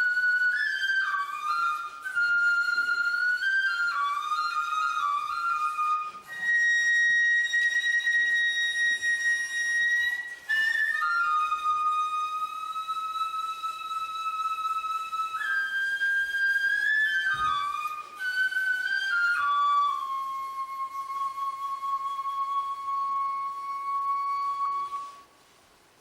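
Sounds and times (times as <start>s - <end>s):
solo flute melody: 0.0s - 25.6s.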